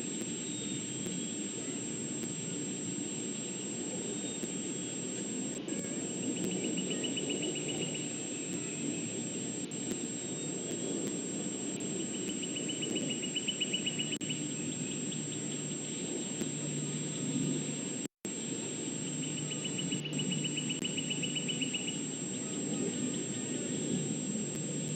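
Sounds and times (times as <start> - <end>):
insects trilling: 0.0 - 24.9
low outdoor rumble: 0.0 - 24.9.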